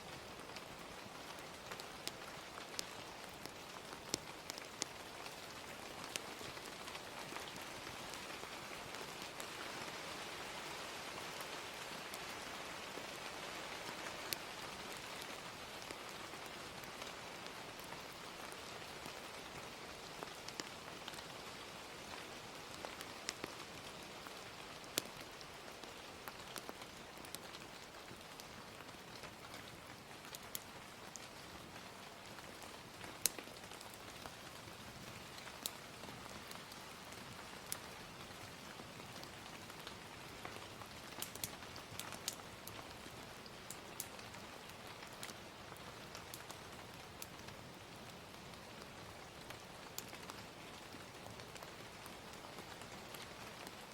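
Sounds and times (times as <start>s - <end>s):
gentle rain: 0.0s - 53.9s
fire crackling and popping: 0.1s - 13.0s, 13.8s - 53.9s.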